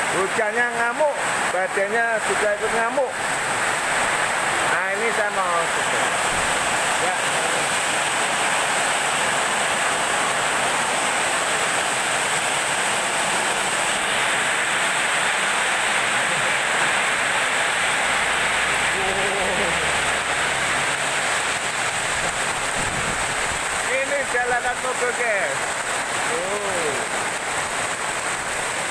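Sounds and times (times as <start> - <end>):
torrential rain pouring: 0.0 - 28.9.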